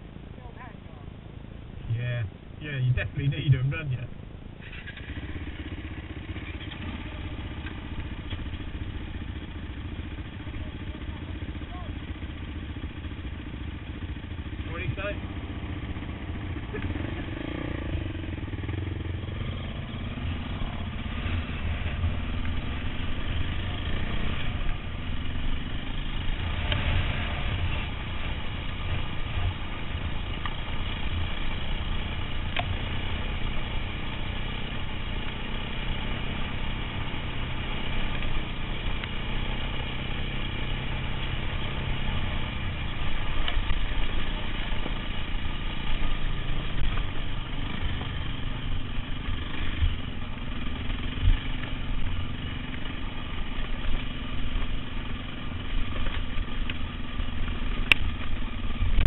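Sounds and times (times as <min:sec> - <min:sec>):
dirt bike engine running: 0:01.8 - 0:59.0.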